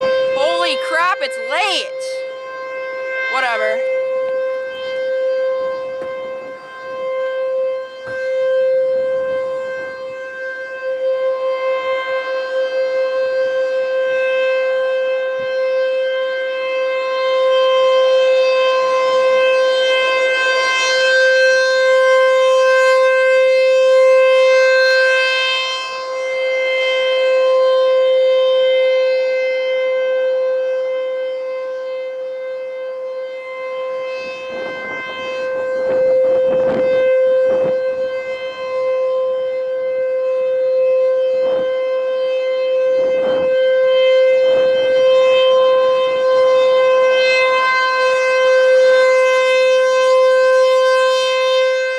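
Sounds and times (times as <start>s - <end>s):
rotating mechanical warning siren: 0.0s - 51.9s.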